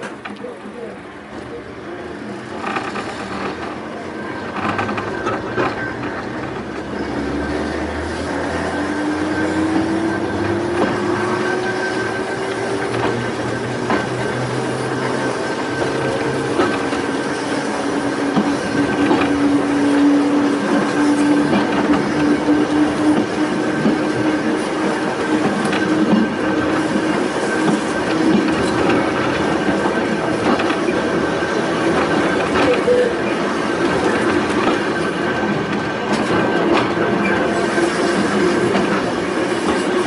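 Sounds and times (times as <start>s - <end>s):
electric train hum: 0.0s - 40.0s
railway car wheels rattling: 0.0s - 40.0s.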